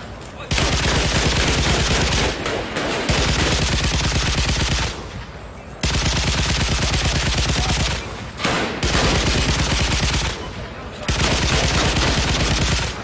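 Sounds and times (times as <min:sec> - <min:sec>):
machine-gun fire bursts: 0:00.5 - 0:05.2, 0:05.8 - 0:13.0.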